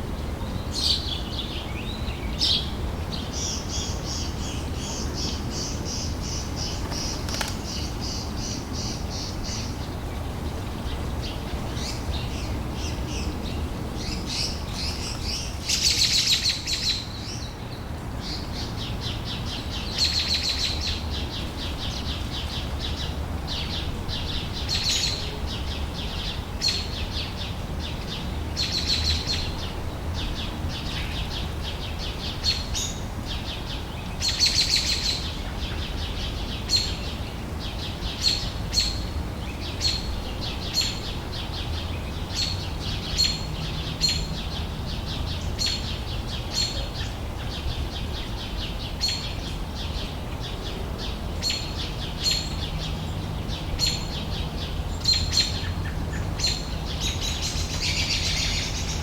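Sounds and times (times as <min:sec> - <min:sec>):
small birds chirping: 0:00.1 - 0:59.0.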